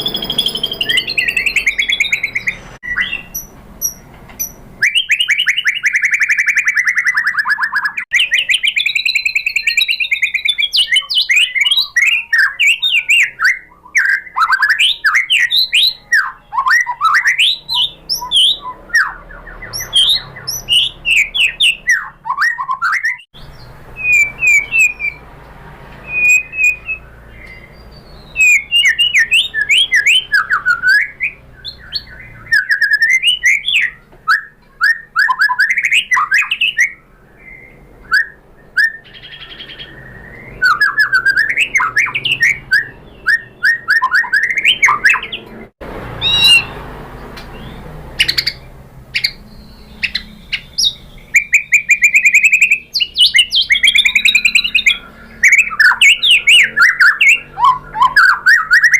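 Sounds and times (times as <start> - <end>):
bird singing whistled notes: 0.0 - 25.2, 26.0 - 46.8, 47.4 - 58.9.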